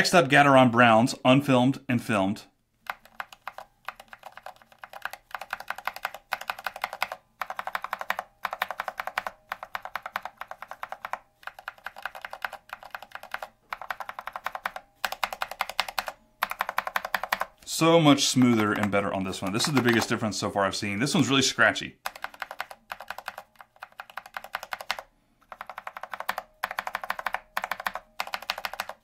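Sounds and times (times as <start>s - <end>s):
mechanical keyboard key presses: 2.8s - 17.5s, 18.4s - 20.2s, 22.0s - 29.0s.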